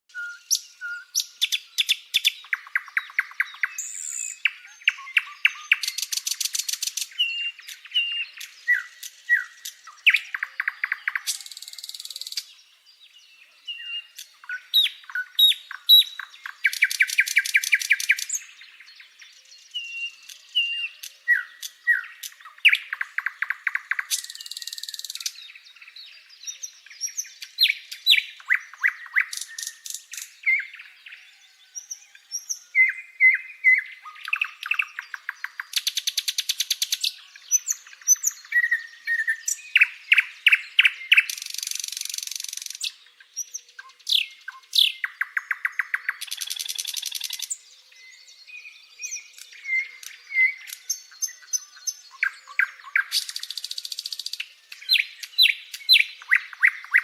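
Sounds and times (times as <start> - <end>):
birdsong with chirps and trills: 0.1 - 57.0.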